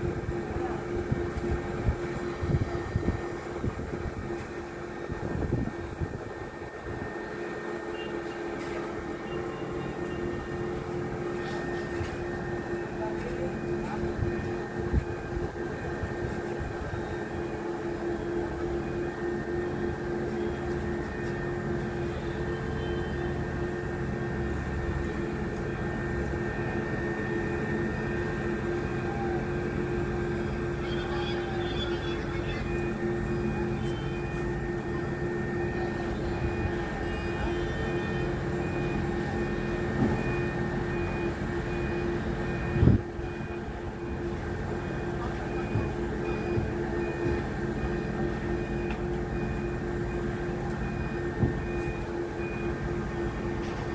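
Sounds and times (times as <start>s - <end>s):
heavy machinery diesel drone: 0.0s - 53.9s
faint high beep: 6.6s - 29.4s, 30.3s - 53.6s.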